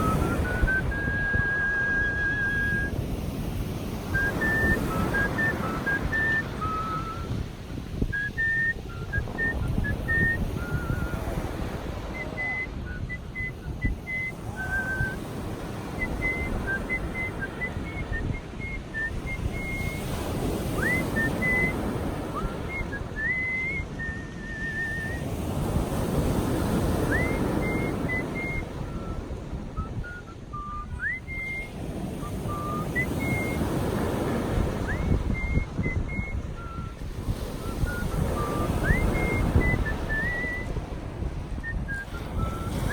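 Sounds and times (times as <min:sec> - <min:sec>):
person whistling a melody: 0:00.0 - 0:03.3, 0:04.0 - 0:42.9
sea surf washing in: 0:00.0 - 0:42.9.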